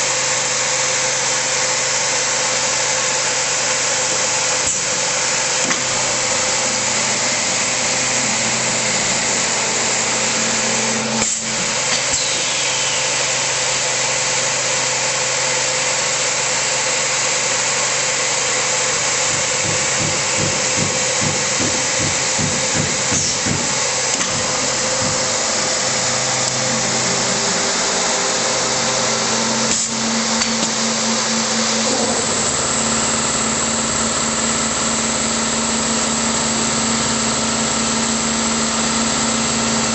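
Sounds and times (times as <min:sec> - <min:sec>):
woodworking machine running: 0:00.0 - 0:39.9.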